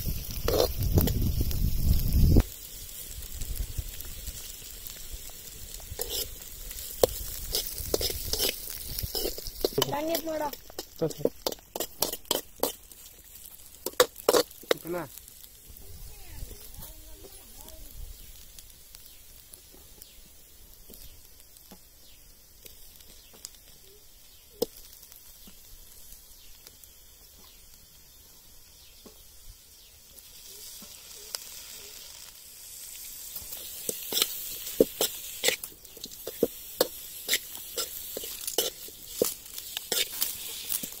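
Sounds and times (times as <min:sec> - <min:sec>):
oil crackling and popping: 0:00.0 - 0:28.2, 0:30.0 - 0:41.0
fish frying sizzle: 0:00.0 - 0:41.0.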